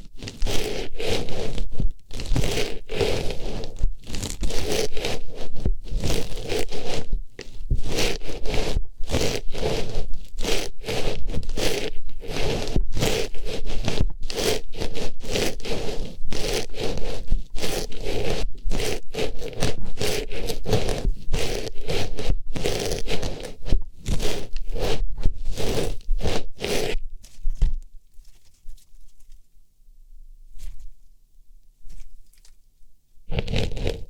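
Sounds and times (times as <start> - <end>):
scratchy rustling on microphone: 0.0 - 29.5, 30.5 - 31.1, 31.8 - 32.6, 33.2 - 34.0.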